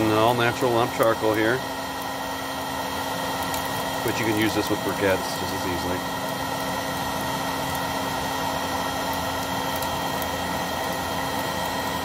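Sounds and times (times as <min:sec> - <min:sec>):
electric fire starter blowing air: 0:00.0 - 0:12.0.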